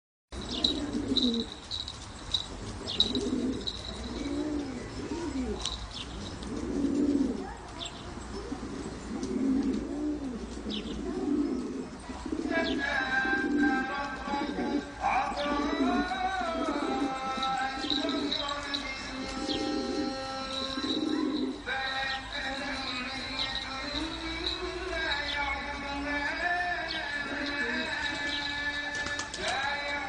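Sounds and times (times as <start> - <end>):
pigeons cooing: 0.4 - 21.8, 22.6 - 25.5, 26.2 - 30.0.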